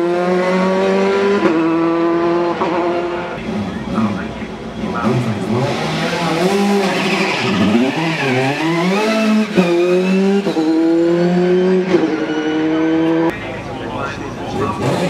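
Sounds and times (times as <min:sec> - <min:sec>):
race car engine revving: 0:00.0 - 0:15.0.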